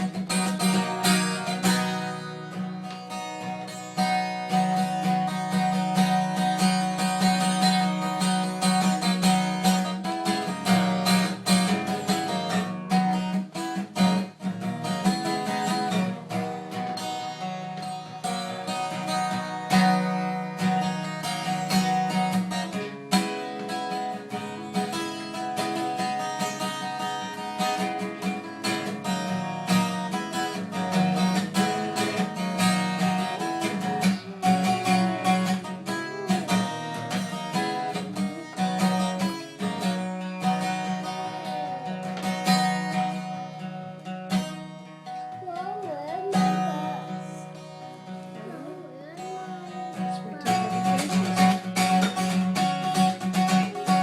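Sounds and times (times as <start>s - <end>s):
acoustic guitar picking and strumming: 0.0s - 54.0s.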